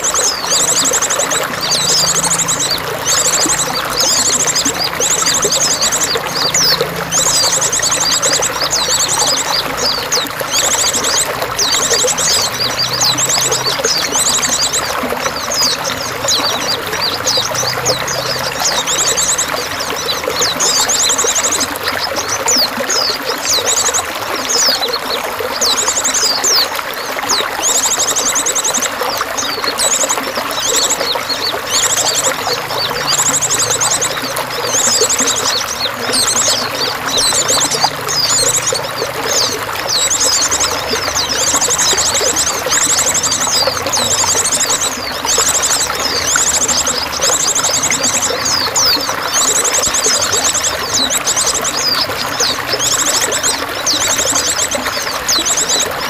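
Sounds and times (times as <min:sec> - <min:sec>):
songbirds chirping and trilling: 0:00.0 - 0:56.0
water pouring and trickling: 0:00.0 - 0:56.0.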